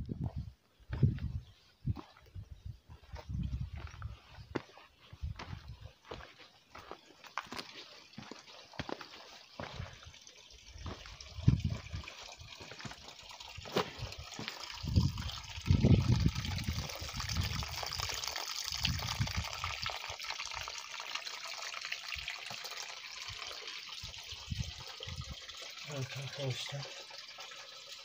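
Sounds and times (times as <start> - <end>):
spring water trickling: 2.9 - 28.0.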